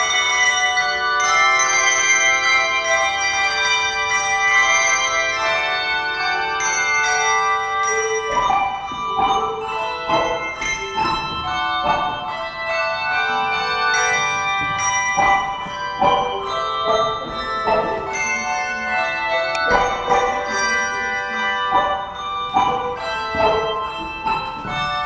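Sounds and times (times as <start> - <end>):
handbell ensemble playing: 0.0 - 25.0.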